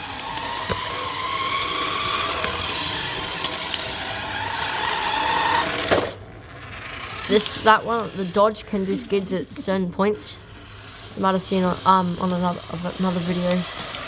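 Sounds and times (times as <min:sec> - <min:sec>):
toy car motors whining: 0:00.0 - 0:14.0.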